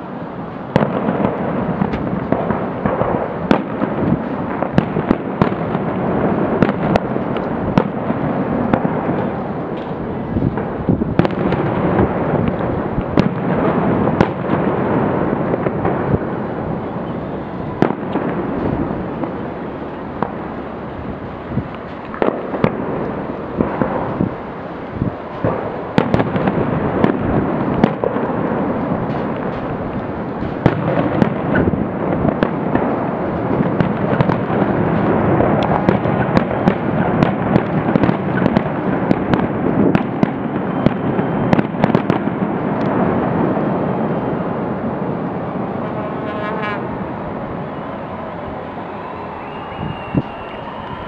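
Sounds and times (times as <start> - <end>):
firework bangs: 0.0 - 51.0
firework crackling: 0.0 - 51.0.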